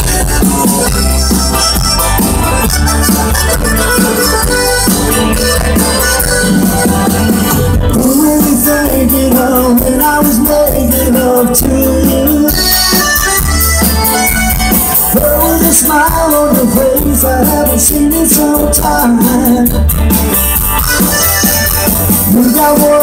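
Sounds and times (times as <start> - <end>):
accordion: 0.0 - 23.0
bass: 0.0 - 23.0
drums: 0.0 - 23.0
electric guitars: 0.0 - 23.0.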